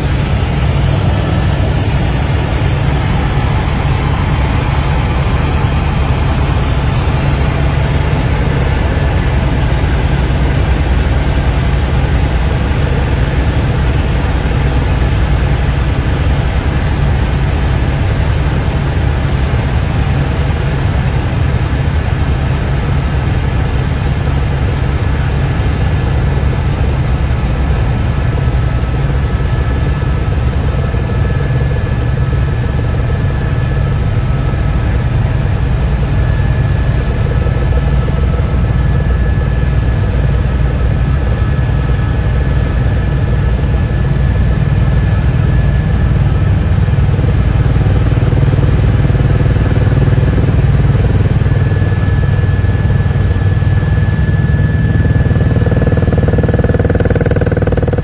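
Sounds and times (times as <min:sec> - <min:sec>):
aircraft engine drone in cabin: 0:00.0 - 0:58.0.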